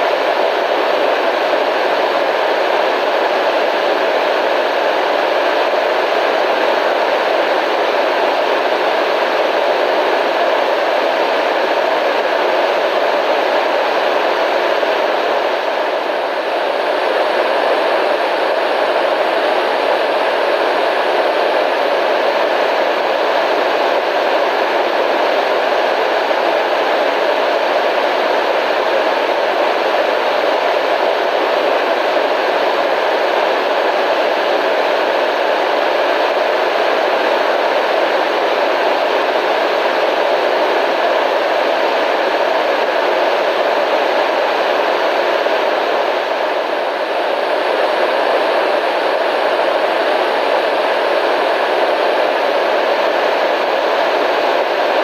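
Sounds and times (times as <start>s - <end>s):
steady static hiss: 0.0s - 55.0s.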